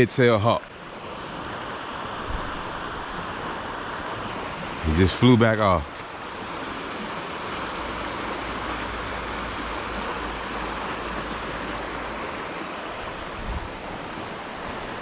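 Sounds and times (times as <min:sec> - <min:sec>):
wind rumble on microphone: 0:01.1 - 0:05.0, 0:06.8 - 0:15.0.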